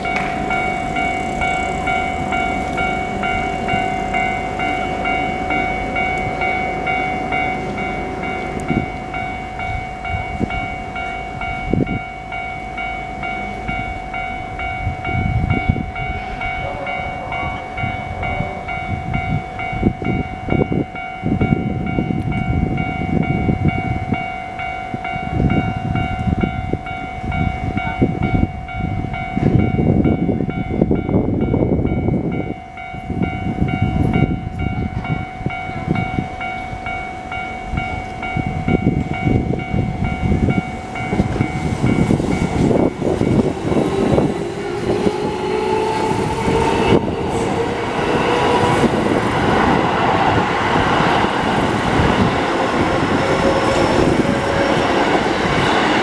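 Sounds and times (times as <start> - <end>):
level crossing bell ringing: 0.0 - 56.0
train wheels rumbling and clattering: 0.0 - 56.0.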